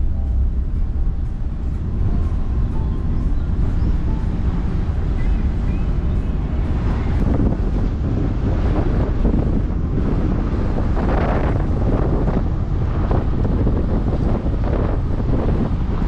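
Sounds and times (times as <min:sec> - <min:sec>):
road and engine rumble: 0:00.0 - 0:16.0
wind buffeting microphone: 0:00.0 - 0:16.0.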